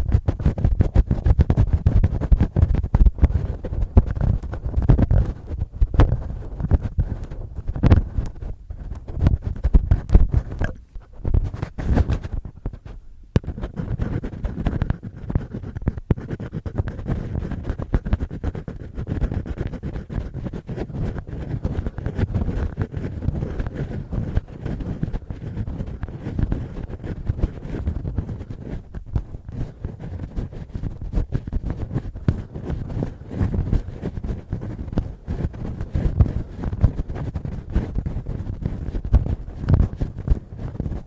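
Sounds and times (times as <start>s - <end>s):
fingernails scratching on microphone: 0.0s - 41.0s.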